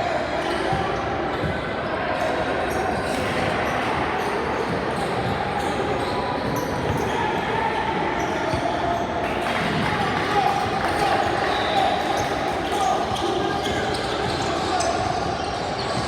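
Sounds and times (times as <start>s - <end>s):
echoing hall noise of people: 0.0s - 16.0s.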